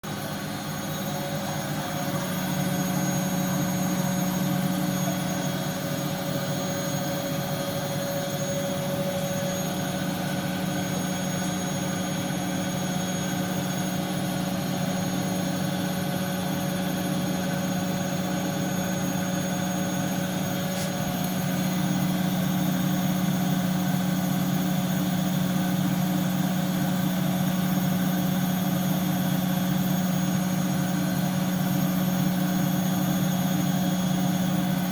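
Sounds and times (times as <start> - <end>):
washing machine motor humming: 0.0 - 28.1.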